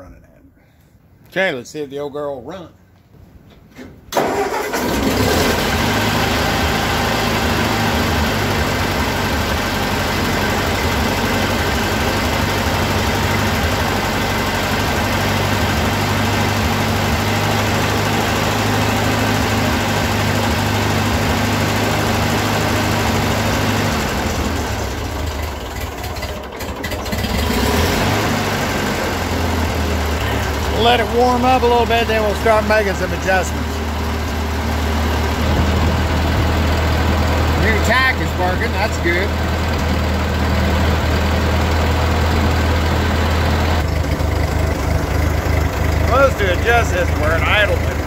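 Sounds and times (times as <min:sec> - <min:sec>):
tractor engine starting and running: 0:03.7 - 0:48.0.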